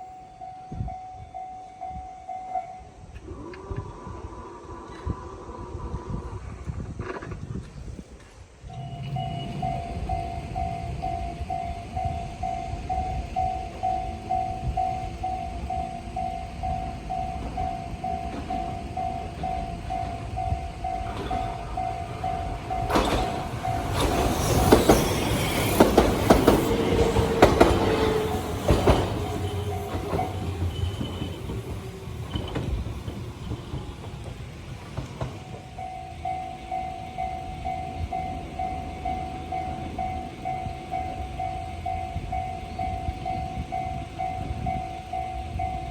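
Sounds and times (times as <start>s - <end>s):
level crossing alarm dinging: 8.7s - 45.9s
train wheels clacking: 8.8s - 45.9s.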